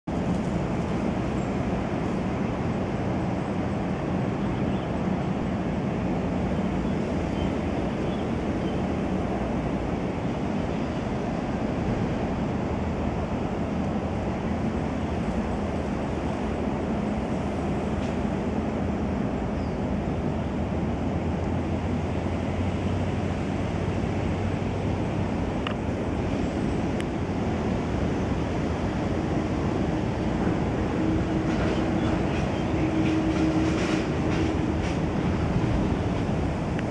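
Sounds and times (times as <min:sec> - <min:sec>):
outdoor background rumble: 0:00.0 - 0:36.9.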